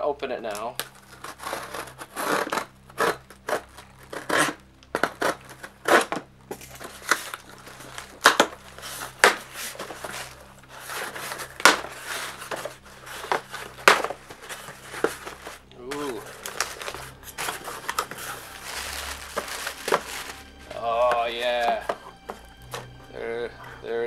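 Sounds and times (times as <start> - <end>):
cardboard scraping and rustling: 0.4 - 22.9
scissors slitting packing tape: 0.5 - 20.4.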